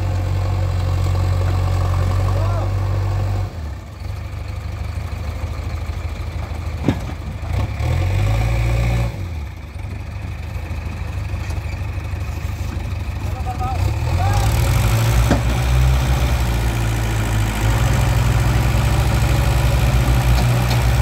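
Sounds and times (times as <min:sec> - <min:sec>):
diesel engines under load: 0:00.0 - 0:21.0.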